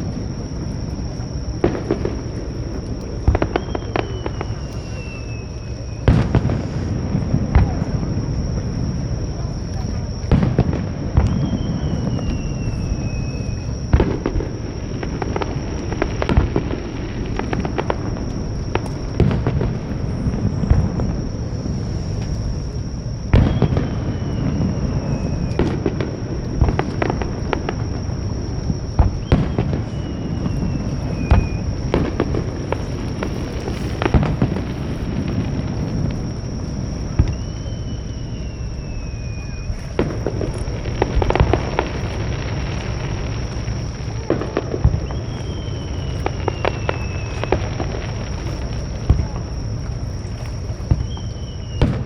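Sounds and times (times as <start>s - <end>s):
fireworks bangs and crackling: 0.0s - 52.0s
whistling firework shell: 0.0s - 52.0s.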